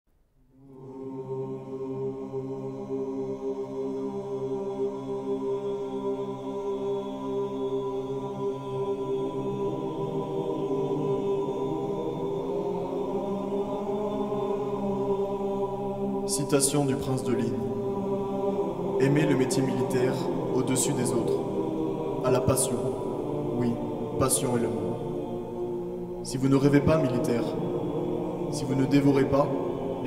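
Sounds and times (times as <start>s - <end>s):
choir-like chanting music: 0.4s - 30.0s.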